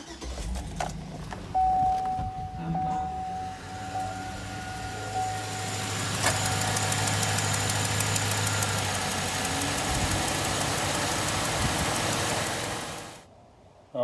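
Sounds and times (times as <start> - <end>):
car engine idling: 0.0 - 13.3
lifter ticking: 0.8 - 13.2.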